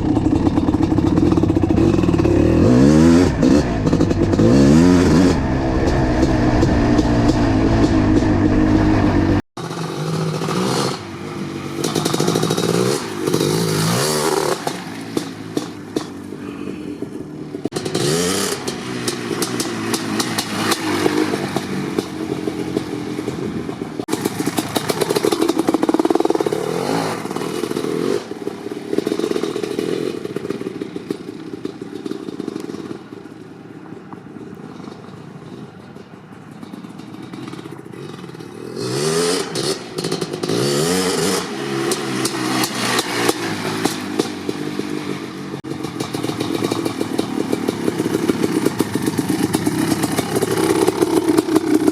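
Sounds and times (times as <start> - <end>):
two-stroke motorcycle engine revving: 0.0 - 33.3, 36.7 - 51.9.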